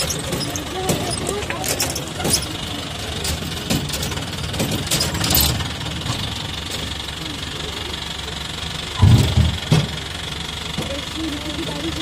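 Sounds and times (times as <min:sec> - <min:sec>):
rattles and knocks: 0:00.0 - 0:07.2, 0:08.4 - 0:11.2
jeep engine rumble: 0:00.0 - 0:12.0.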